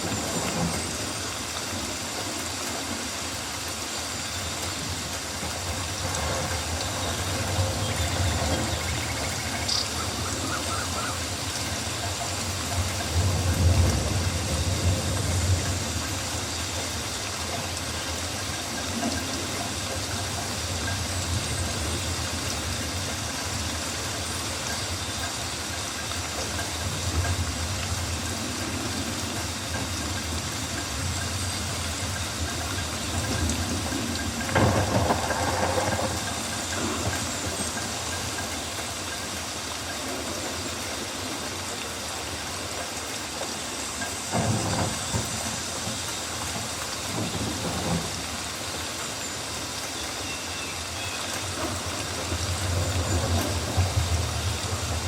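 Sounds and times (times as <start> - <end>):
rain on foliage: 0.0 - 55.0.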